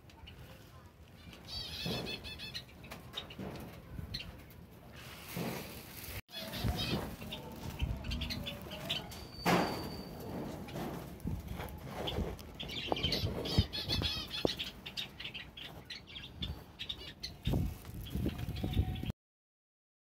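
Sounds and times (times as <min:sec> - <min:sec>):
sparrows chirping: 0:00.1 - 0:04.6, 0:06.3 - 0:19.1
wings fluttering: 0:01.3 - 0:16.6, 0:17.3 - 0:19.1.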